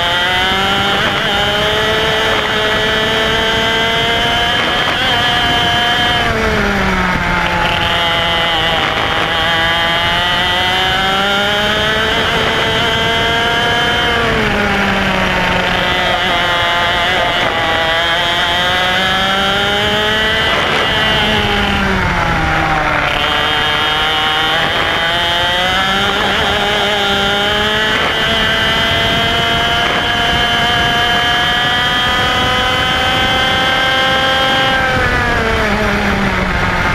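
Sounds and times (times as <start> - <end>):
kart engine racing: 0.0 - 36.9.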